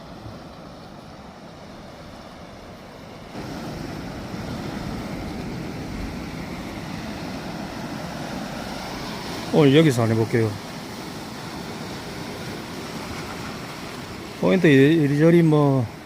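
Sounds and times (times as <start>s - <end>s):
sea surf: 0.0s - 16.0s
wind: 0.0s - 16.0s.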